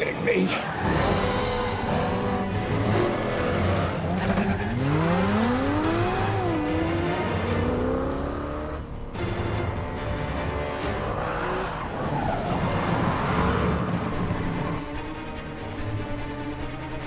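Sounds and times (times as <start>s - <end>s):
sports car engines revving: 0.8s - 14.8s.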